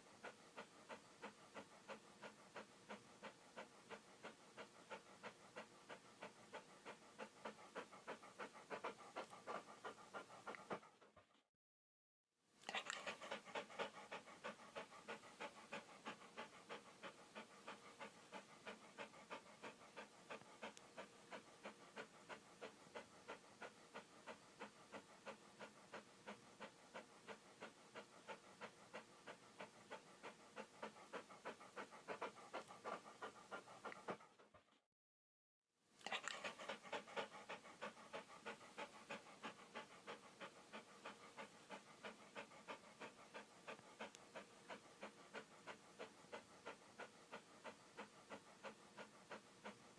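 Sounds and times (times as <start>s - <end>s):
dog panting: 0.0s - 11.5s, 12.6s - 34.8s, 36.0s - 49.9s.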